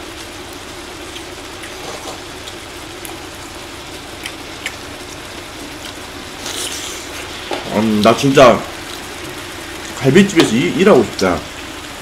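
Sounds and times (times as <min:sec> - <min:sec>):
soup bubbling in pot: 0:00.0 - 0:10.0.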